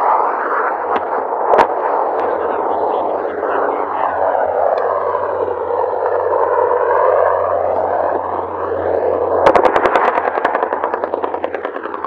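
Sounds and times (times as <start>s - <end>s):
helicopter flying: 0.0s - 12.0s.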